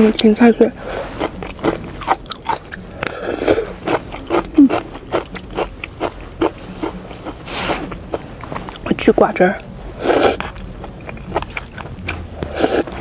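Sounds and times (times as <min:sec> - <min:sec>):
person chewing noodles: 0:00.8 - 0:08.9, 0:10.0 - 0:13.0.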